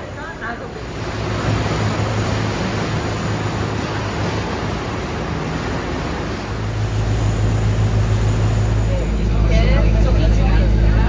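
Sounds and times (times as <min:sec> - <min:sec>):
low hum: 0:00.7 - 0:11.0.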